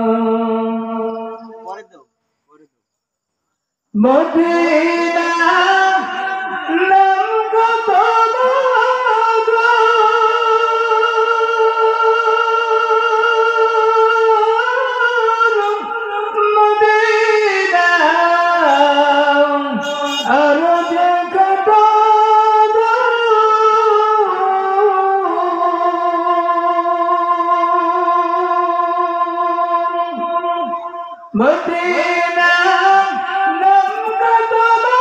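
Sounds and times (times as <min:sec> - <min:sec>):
man singing wordlessly: 0:04.0 - 0:35.0.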